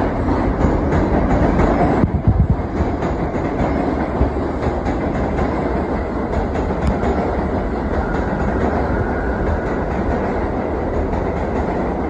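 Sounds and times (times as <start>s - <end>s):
subway train rumbling: 0.0s - 12.0s
wheels clicking over rail joints: 0.0s - 12.0s.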